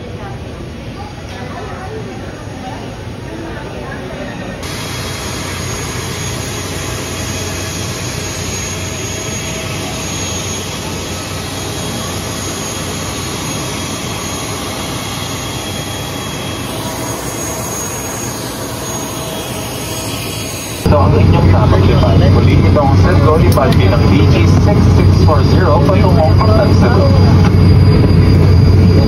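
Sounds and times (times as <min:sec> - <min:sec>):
airliner engine whine: 0:00.0 - 0:29.0.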